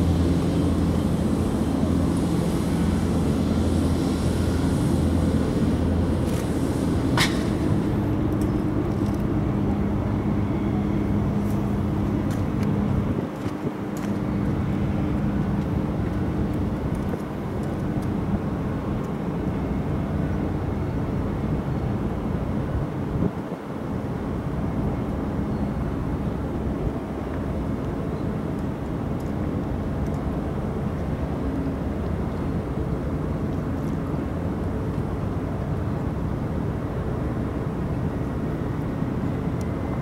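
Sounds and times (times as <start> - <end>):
ship engine droning hum: 0.0 - 40.0
steady outdoor rumble: 0.0 - 40.0.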